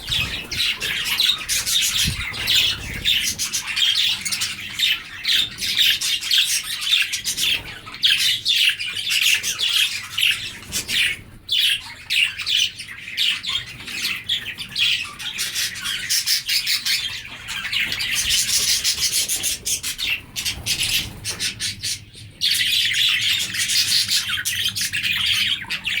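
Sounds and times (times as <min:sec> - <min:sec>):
budgerigars chattering and chirping: 0:00.0 - 0:26.0.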